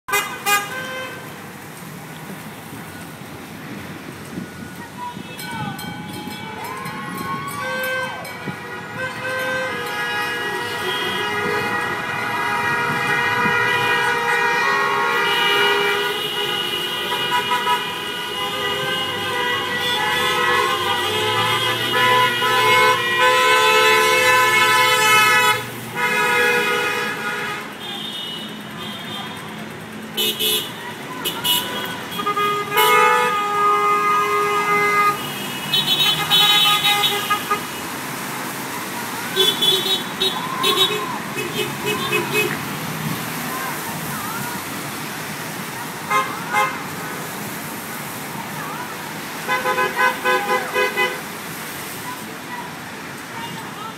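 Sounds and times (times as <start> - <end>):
car horns honking: 0.0 - 1.5, 4.4 - 44.6, 45.6 - 47.5, 48.8 - 52.0
passing traffic: 0.0 - 53.9.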